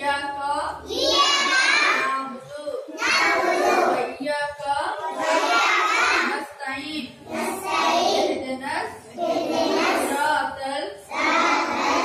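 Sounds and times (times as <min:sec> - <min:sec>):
children chanting a prayer: 0:00.0 - 0:06.6, 0:07.2 - 0:12.0.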